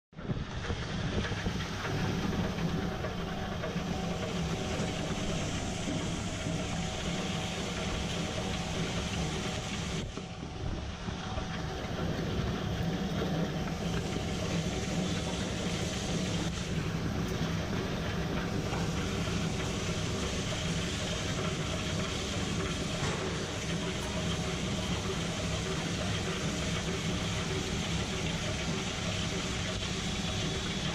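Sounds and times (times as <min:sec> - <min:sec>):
stone wet grinder running: 0:00.5 - 0:30.9.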